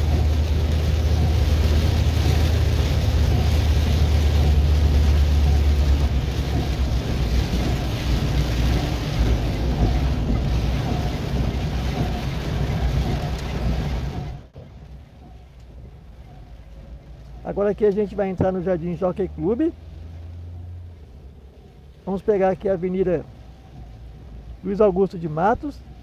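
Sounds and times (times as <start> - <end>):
tyres hissing on wet road: 0.0 - 14.6, 16.5 - 26.0
car engine and road drone: 0.0 - 26.0.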